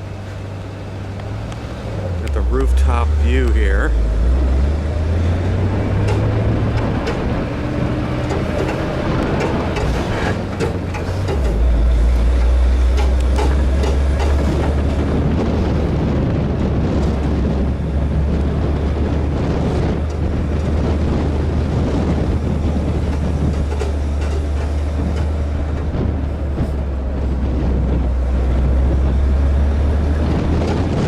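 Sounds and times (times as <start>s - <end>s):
road and wind noise: 0.0s - 31.0s
truck engine droning: 0.0s - 31.0s.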